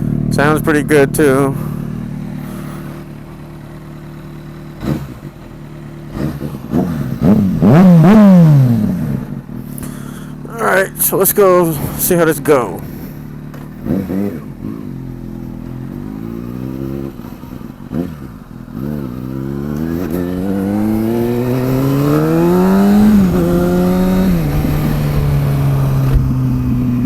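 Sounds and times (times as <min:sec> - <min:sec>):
sport bike engine accelerating: 0:00.0 - 0:27.0.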